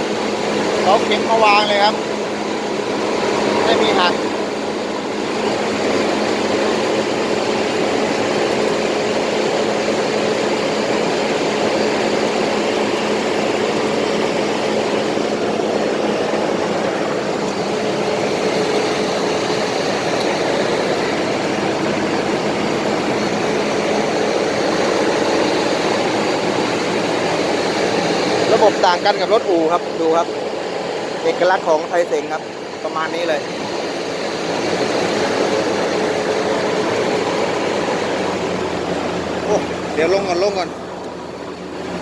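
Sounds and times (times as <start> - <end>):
combine harvester engine running: 0.0 - 42.0.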